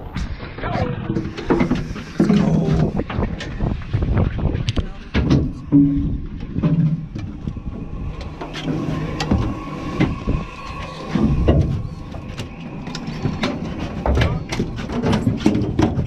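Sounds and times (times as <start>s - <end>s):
boat engine rumbling: 0.0s - 16.0s
indistinct voices: 0.6s - 3.7s, 4.7s - 16.0s.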